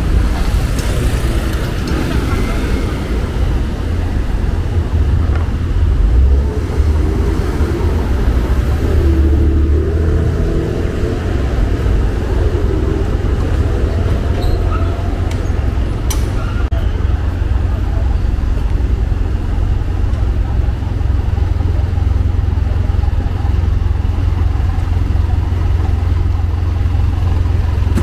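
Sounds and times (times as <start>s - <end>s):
faint voices: 0.0s - 9.8s, 10.5s - 28.0s
cars and buses passing: 0.0s - 28.0s
deep traffic hum: 0.0s - 28.0s.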